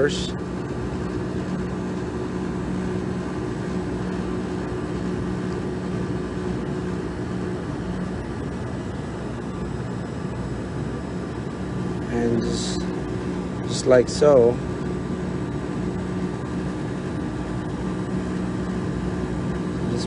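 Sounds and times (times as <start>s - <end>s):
machinery drone: 0.0s - 20.0s.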